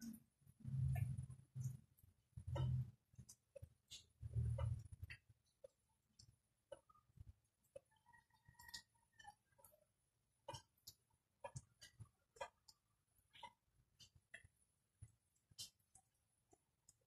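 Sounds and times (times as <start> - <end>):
faint irregular clicks: 0.8 - 17.0.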